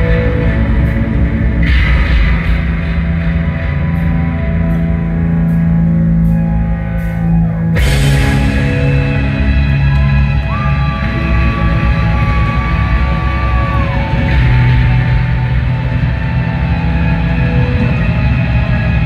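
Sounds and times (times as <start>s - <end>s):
post-rock band playing live: 0.0s - 19.0s.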